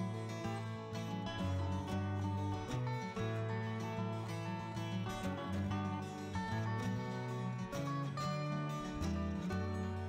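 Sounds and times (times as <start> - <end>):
plucked-string notes: 0.0 - 10.0.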